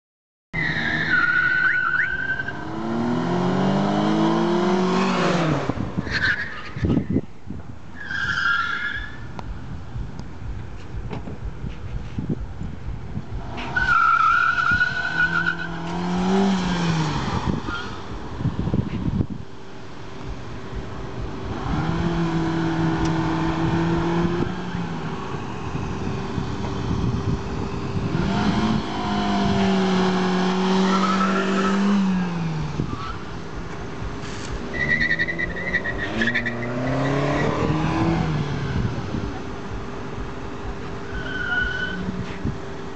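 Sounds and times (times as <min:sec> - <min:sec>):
car engines revving hard: 0:00.6 - 0:07.2, 0:09.0 - 0:42.9.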